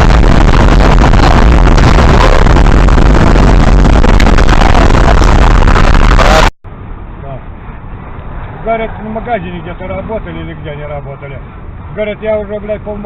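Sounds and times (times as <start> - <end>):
distorted vehicle rumble: 0.0 - 13.0.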